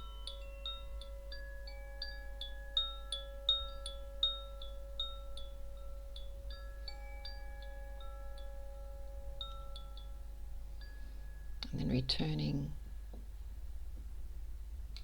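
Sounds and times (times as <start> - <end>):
wind chime ringing: 0.0 - 13.8
steady low hum: 0.0 - 15.0.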